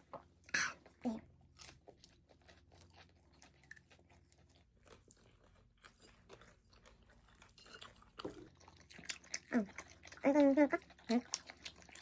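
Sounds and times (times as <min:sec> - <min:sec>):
crunching and chewing fried chicken: 0:00.0 - 0:12.0.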